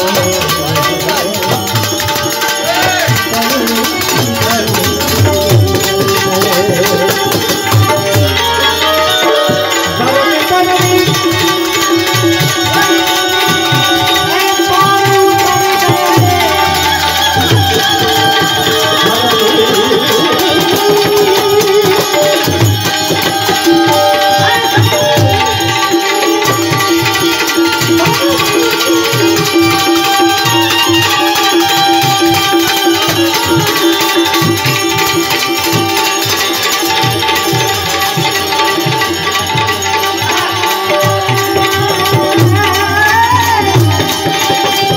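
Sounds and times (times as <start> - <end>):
banjo ringing melody: 0.0 - 44.9
tabla rhythm: 0.0 - 44.9.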